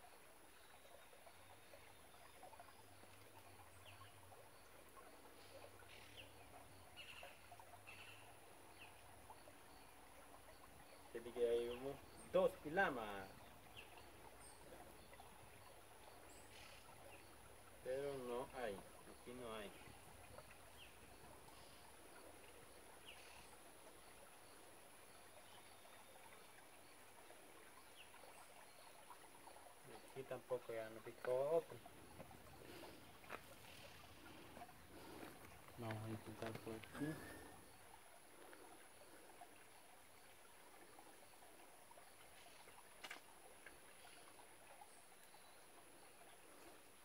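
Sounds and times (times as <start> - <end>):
stream trickling over rocks: 0.0 - 47.0.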